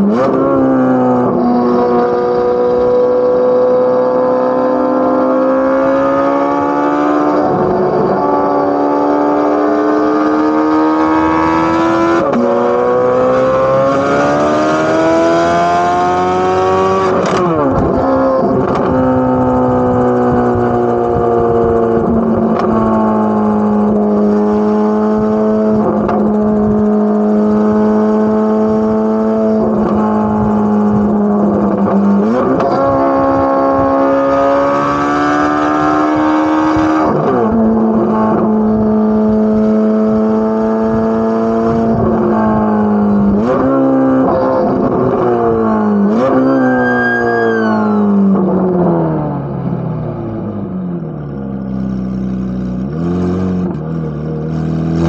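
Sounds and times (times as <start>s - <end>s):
car exhaust revving: 0.0s - 55.0s.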